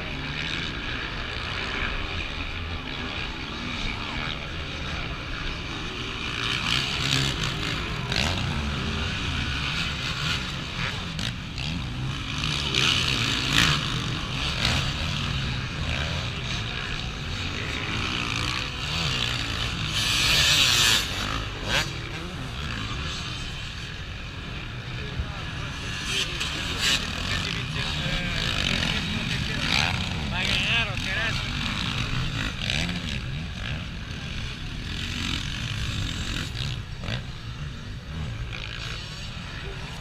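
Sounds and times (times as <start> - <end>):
motocross engines revving: 0.0 - 40.0.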